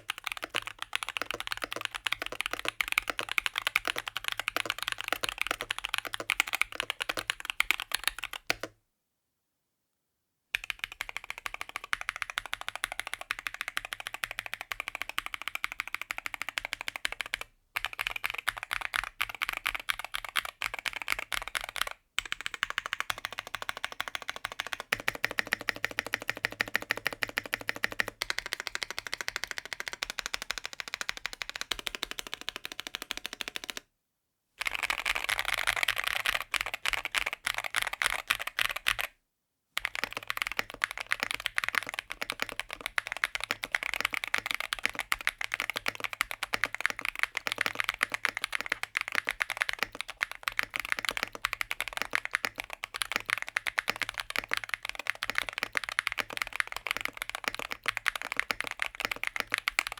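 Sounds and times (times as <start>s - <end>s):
mechanical keyboard typing: 0.0s - 8.7s, 10.6s - 33.8s, 34.6s - 39.1s, 39.8s - 59.9s.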